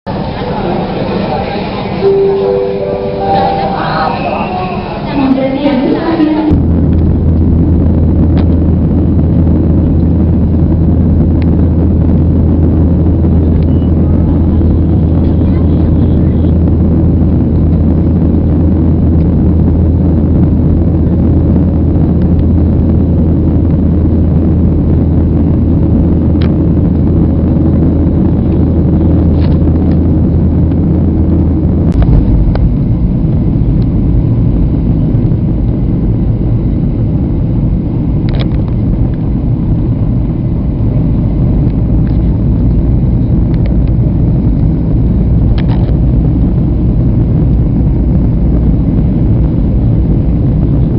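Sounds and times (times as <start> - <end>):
airliner engines rumbling: 0.1 - 50.9.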